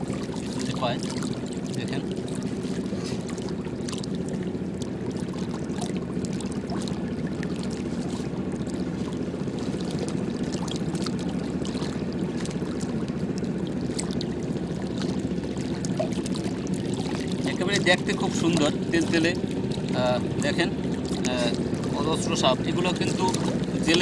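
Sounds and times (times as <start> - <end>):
water lapping: 0.0 - 24.0.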